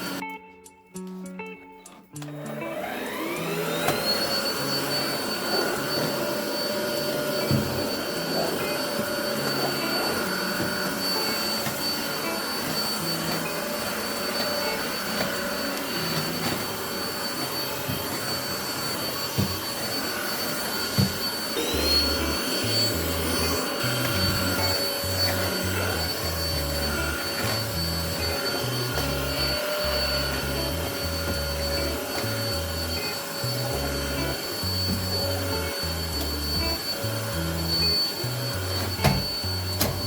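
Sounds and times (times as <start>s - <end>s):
vacuum cleaner motor whine: 0.0s - 0.2s, 2.2s - 40.0s.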